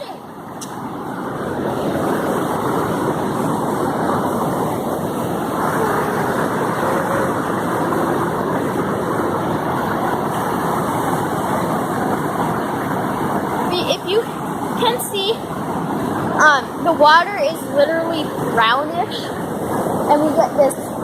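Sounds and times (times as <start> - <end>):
river rapids and waterfall rushing: 0.0 - 21.0.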